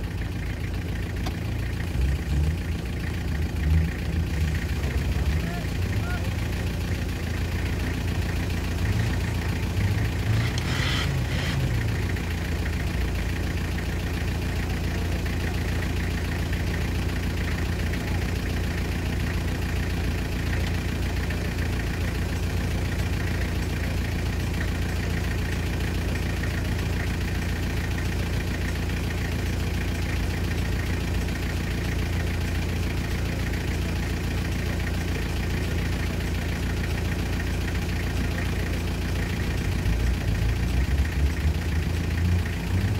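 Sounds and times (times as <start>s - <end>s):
engine idling: 0.0s - 42.9s.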